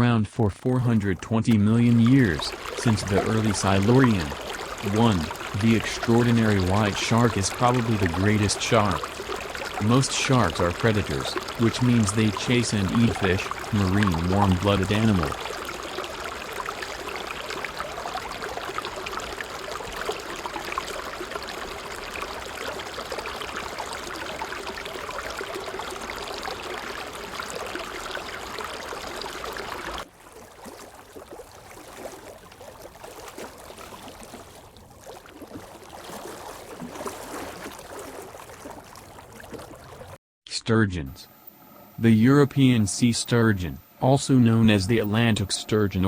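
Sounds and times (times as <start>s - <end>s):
running bubbling water: 0.6s - 40.2s, 41.3s - 46.0s.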